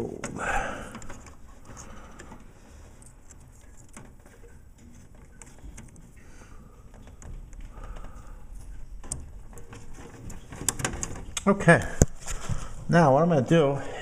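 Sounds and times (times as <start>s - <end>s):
parts clicking and knocking: 0.0s - 12.6s.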